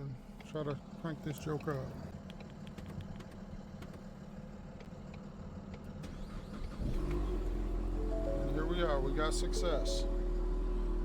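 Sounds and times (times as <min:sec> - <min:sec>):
car engine starting and idling: 0:00.3 - 0:11.0.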